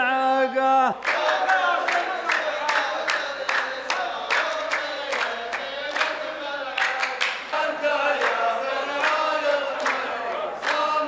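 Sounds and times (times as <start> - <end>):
men chanting in unison: 0.0 - 11.0
rhythmic hand-clapping: 0.9 - 11.0.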